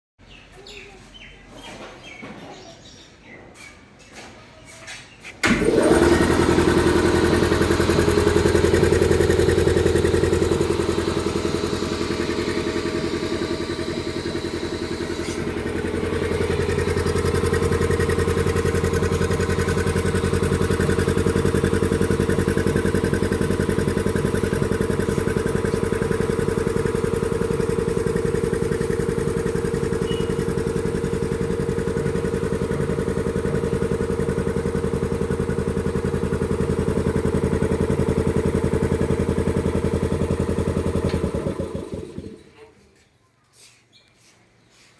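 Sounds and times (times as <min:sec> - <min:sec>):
vacuum compressor humming and pulsing: 0:05.4 - 0:42.5.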